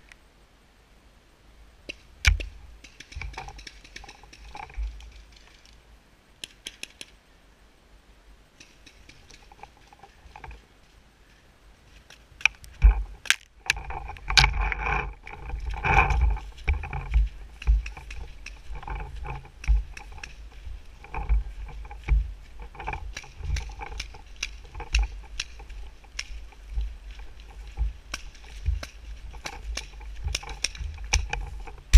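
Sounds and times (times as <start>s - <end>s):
rustling and knocking of handled gear: 1.9s - 5.8s, 8.6s - 31.9s.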